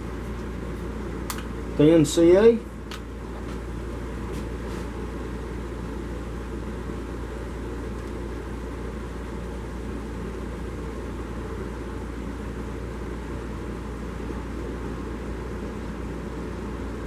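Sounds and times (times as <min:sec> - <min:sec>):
workshop machine droning: 0:00.0 - 0:17.0.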